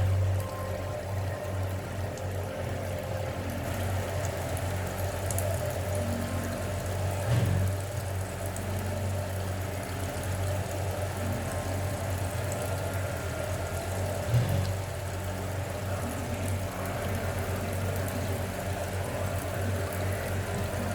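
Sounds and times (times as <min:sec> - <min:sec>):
low mechanical hum: 0:00.0 - 0:20.9.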